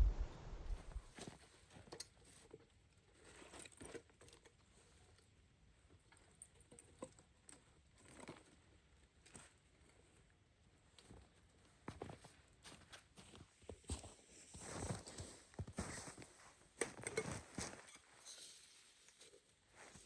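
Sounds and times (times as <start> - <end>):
faint crackles and rustles: 0.0 - 20.0.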